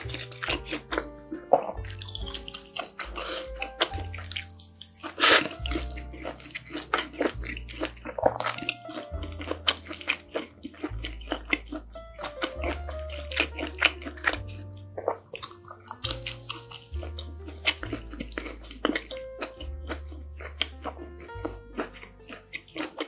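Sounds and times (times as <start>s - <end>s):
soft background music: 0.0s - 23.0s
wet chewing and mouth smacks: 0.0s - 23.0s.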